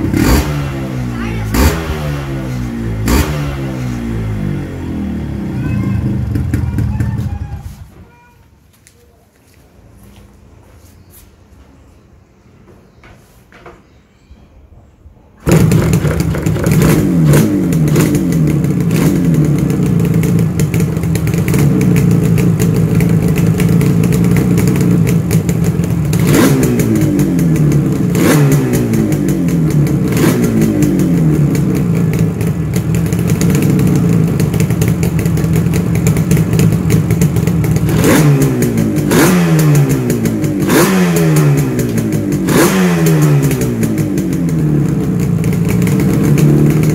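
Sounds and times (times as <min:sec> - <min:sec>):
motorcycle engine revving: 0:00.0 - 0:07.4, 0:15.4 - 0:46.9.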